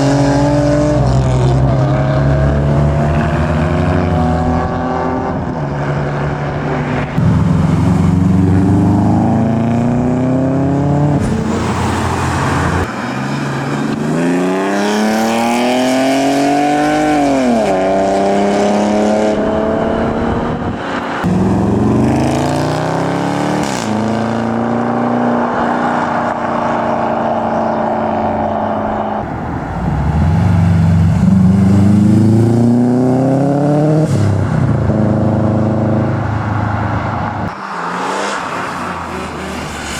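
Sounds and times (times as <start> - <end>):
cars accelerating hard: 0.0 - 39.9.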